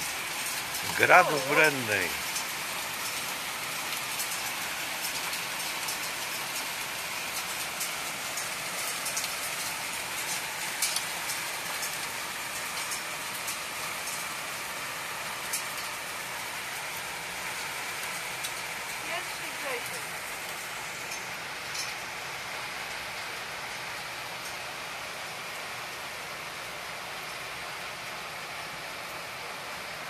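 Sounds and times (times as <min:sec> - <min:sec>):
heavy rain: 0:00.0 - 0:30.0
raindrops ticking on tiles and railing: 0:00.0 - 0:30.0.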